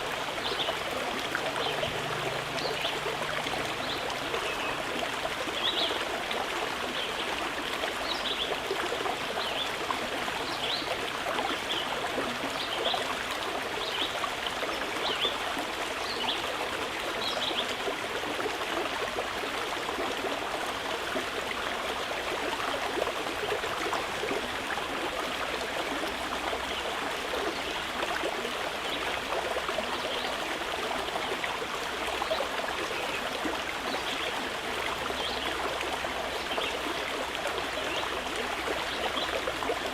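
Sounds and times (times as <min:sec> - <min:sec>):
mountain river flowing: 0:00.0 - 0:39.9.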